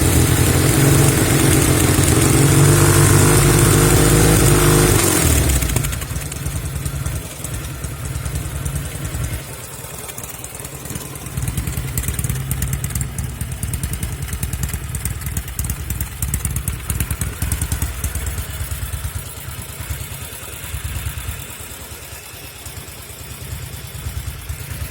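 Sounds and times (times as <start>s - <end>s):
engine misfires: 0.0s - 24.9s
motorcycle engine idling unevenly: 0.0s - 24.9s.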